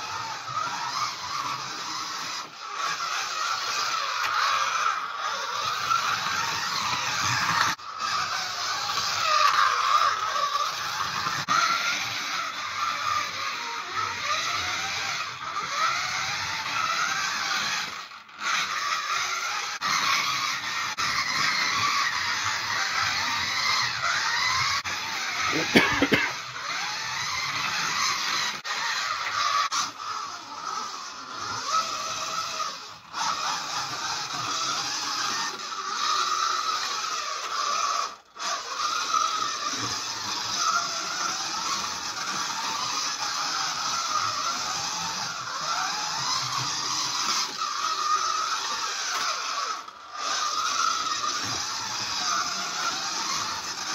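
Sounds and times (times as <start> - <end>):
slot car motor whining: 0.0 - 53.9.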